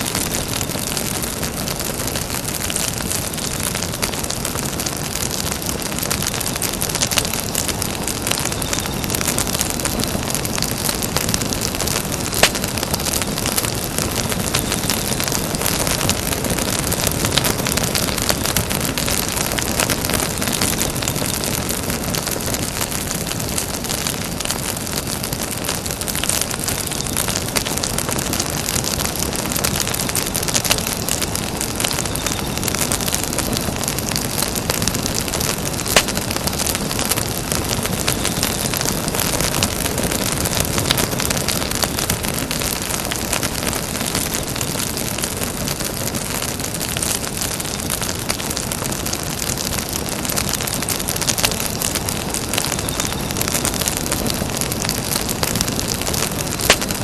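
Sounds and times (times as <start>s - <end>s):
burning wood popping: 0.0s - 57.0s
campfire crackling: 0.0s - 57.0s.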